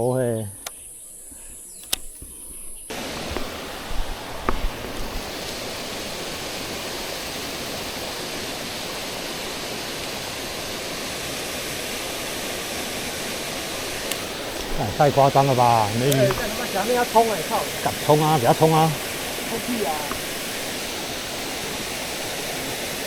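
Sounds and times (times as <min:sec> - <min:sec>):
stream rushing over rocks: 0:02.9 - 0:23.0.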